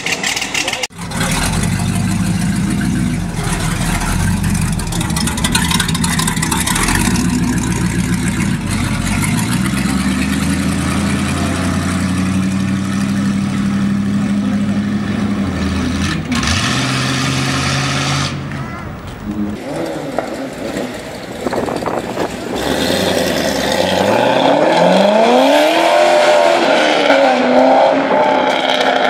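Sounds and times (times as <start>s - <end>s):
car engine idling and pulling away: 0.0s - 29.0s.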